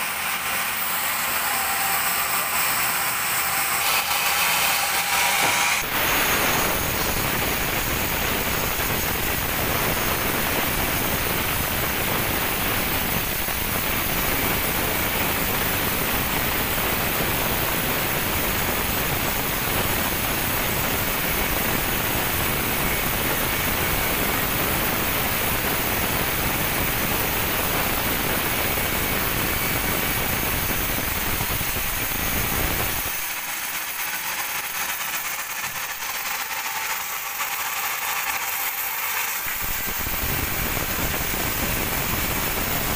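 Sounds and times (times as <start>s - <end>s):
band saw cutting through log: 0.0s - 42.9s.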